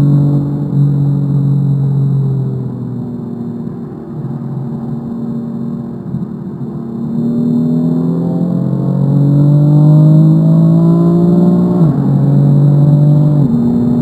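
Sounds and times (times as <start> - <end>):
car engine at full throttle: 0.0 - 14.0.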